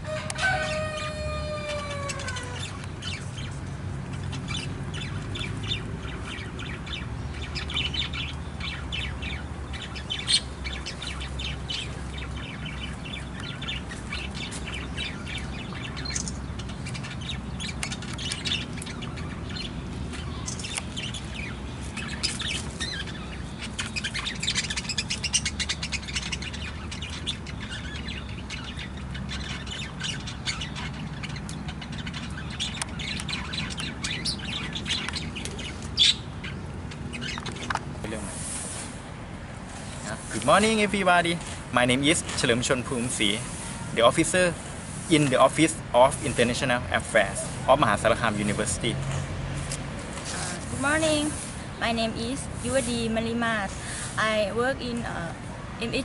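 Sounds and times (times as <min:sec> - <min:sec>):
budgerigars chirping: 0:00.0 - 0:49.1.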